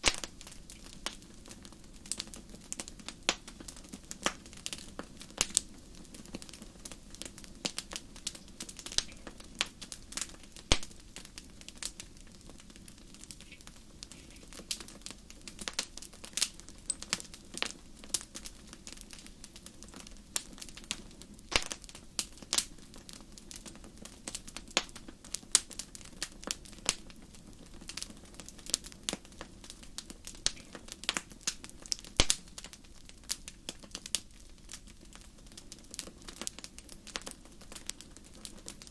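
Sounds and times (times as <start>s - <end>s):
fire hissing: 0.0s - 38.9s
wood fire crackling: 0.0s - 38.9s.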